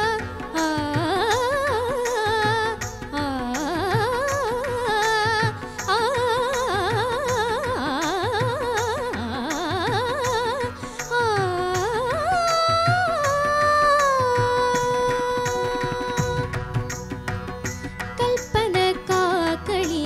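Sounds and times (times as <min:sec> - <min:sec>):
girl singing: 0:00.0 - 0:16.9, 0:18.2 - 0:20.0.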